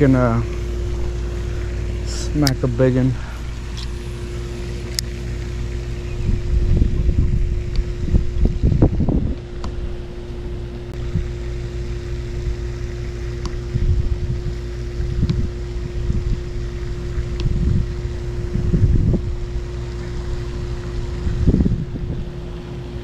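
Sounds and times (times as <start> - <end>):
wind buffeting microphone: 0.0 - 11.4, 12.4 - 23.0
low hum: 0.0 - 23.0.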